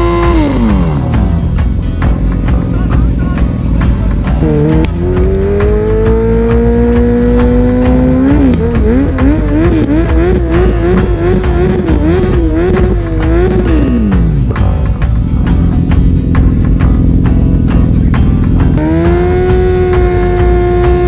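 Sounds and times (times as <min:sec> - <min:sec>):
motorcycle engine revving high: 0:00.0 - 0:21.0.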